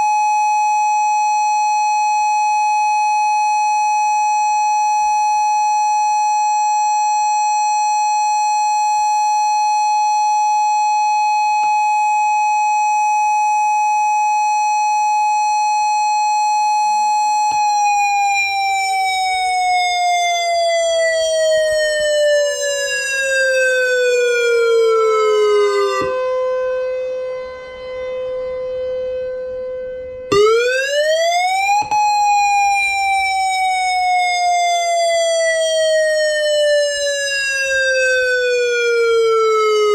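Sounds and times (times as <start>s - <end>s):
lower siren tone: 0.0s - 39.9s
warning siren: 0.0s - 39.9s.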